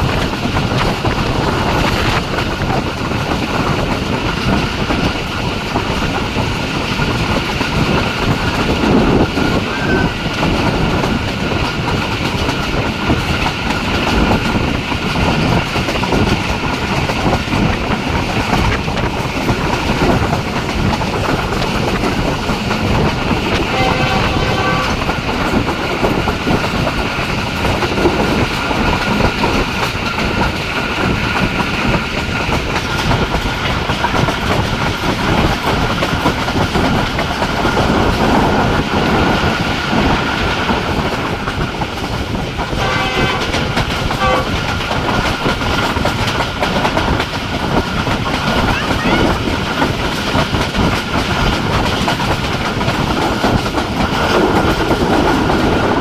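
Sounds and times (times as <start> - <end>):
train rumbling: 0.0 - 56.0
wheels clattering over rail joints: 0.0 - 56.0.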